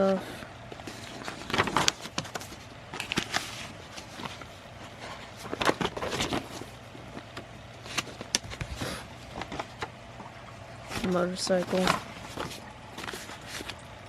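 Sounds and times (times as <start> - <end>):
paper rustling: 0.7 - 9.9, 10.9 - 13.8.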